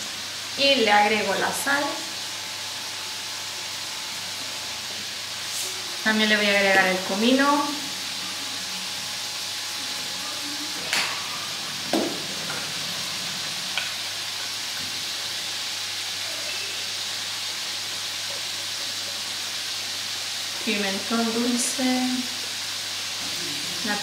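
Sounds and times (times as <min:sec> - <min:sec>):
food sizzling in a pot: 0:00.0 - 0:24.0.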